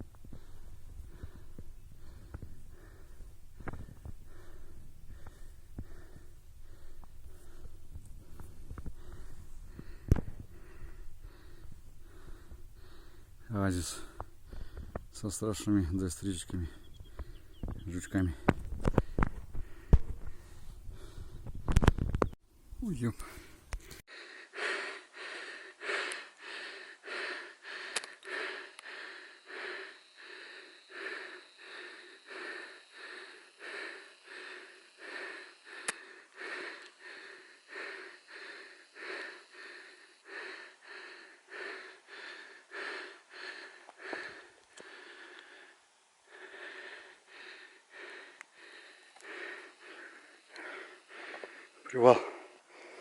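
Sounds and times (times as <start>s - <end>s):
person breathing hard: 0.0s - 15.2s, 16.6s - 22.0s, 23.2s - 53.0s.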